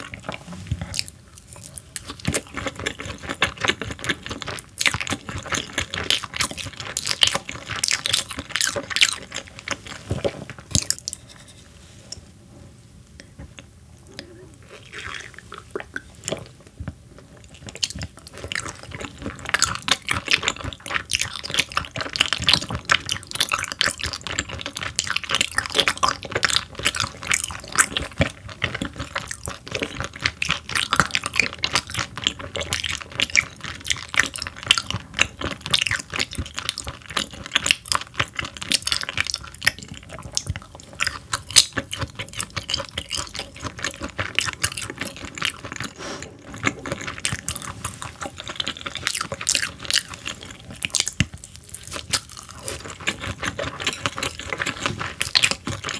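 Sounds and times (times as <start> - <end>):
close chewing mouth sounds: 0.0 - 11.5, 13.2 - 55.9.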